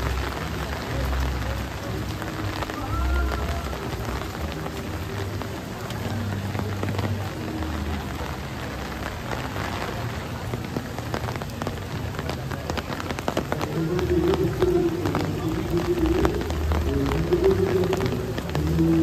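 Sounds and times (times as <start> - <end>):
raindrops hitting umbrella: 0.0 - 19.0
steady rain: 0.0 - 19.0.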